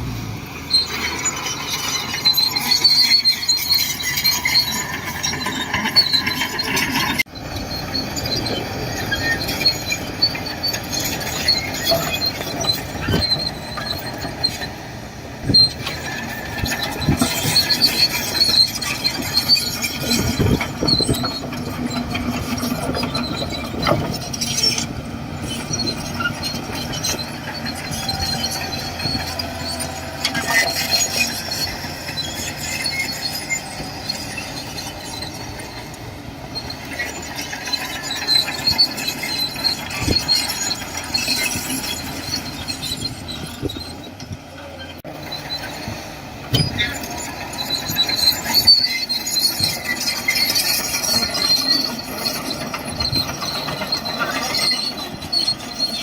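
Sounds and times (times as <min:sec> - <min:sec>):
bulldozer engine running: 0:00.0 - 0:56.0
high metallic squealing: 0:00.0 - 0:56.0
steel tracks clanking: 0:00.0 - 0:56.0.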